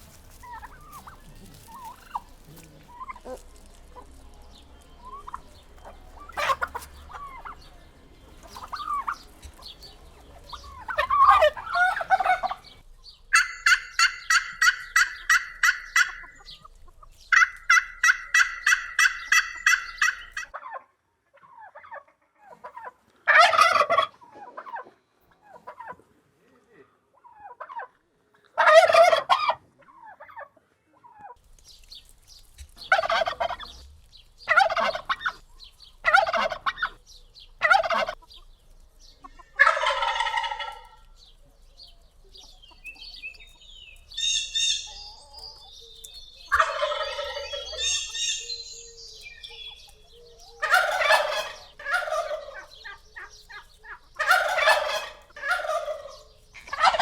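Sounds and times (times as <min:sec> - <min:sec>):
turkeys gobbling: 0:00.0 - 0:26.1, 0:27.2 - 0:28.0, 0:28.6 - 0:57.0.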